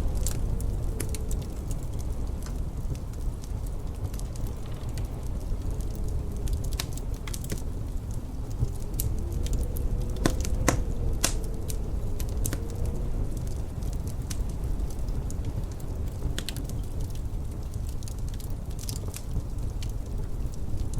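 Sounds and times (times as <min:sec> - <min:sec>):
distant wind rumble and howl: 0:00.0 - 0:20.9
wood fire crackling and popping: 0:00.0 - 0:20.9.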